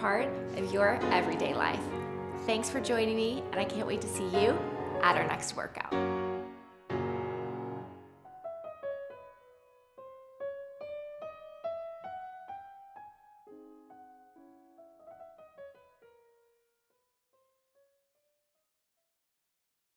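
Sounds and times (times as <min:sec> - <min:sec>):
slow piano melody: 0:00.0 - 0:17.9.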